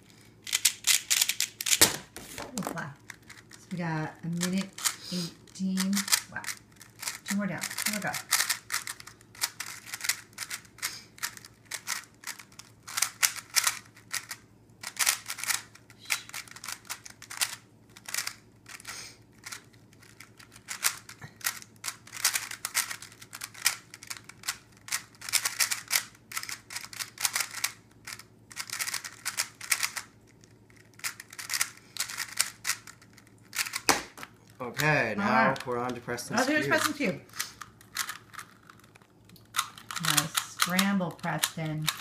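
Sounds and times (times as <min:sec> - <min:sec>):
puzzle cube clicking: 0:00.5 - 0:34.9, 0:35.5 - 0:42.0.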